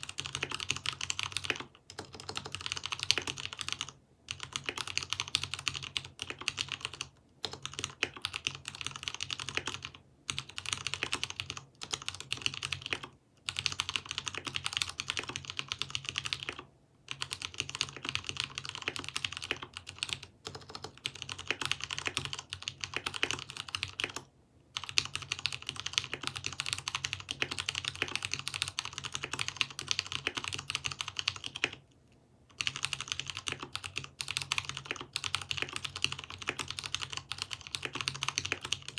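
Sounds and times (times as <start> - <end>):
fast mechanical keyboard typing: 0.0 - 31.8, 32.5 - 38.9.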